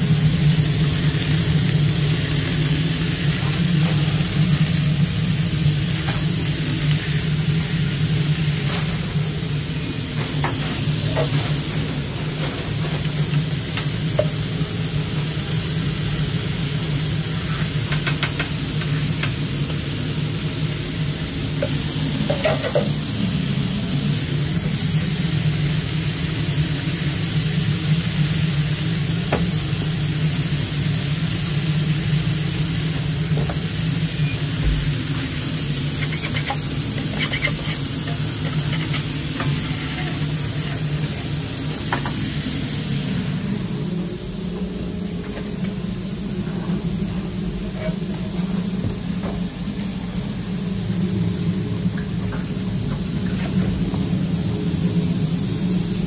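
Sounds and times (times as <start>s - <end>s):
burgers sizzling on grill: 0.0s - 56.0s
constant low hum: 0.0s - 56.0s.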